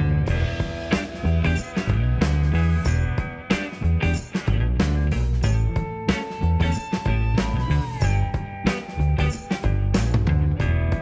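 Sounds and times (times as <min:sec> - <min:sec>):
instrumental rock music: 0:00.0 - 0:11.0.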